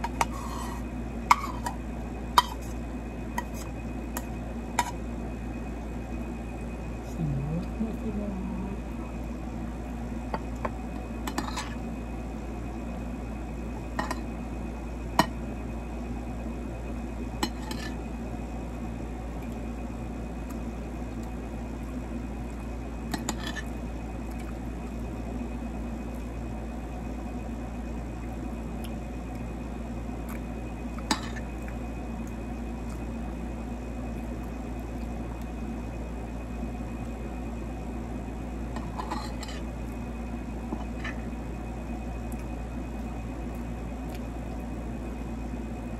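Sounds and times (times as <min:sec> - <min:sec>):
steady background hum: 0:00.0 - 0:45.9.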